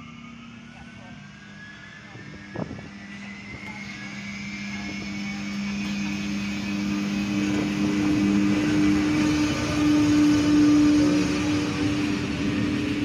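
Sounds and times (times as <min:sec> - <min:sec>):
train wheels rumbling on rail: 0:02.0 - 0:13.0.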